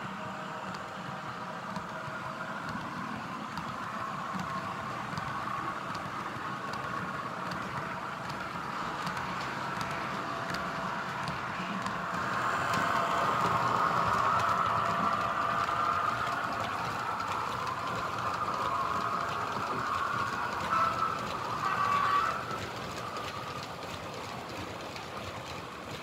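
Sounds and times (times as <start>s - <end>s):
model trains rolling hum: 0.0s - 26.0s
wheels clicking on rail joints: 0.0s - 26.0s.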